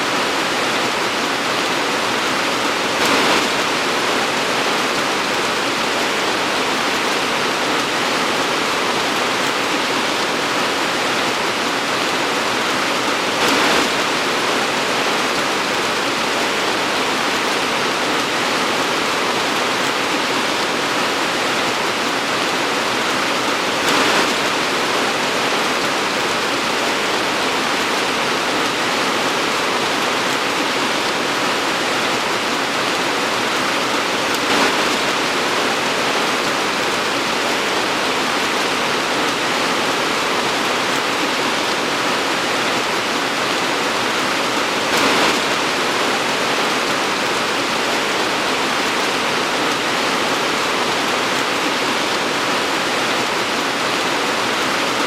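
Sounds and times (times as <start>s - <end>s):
torrential rain hissing: 0.0s - 55.0s.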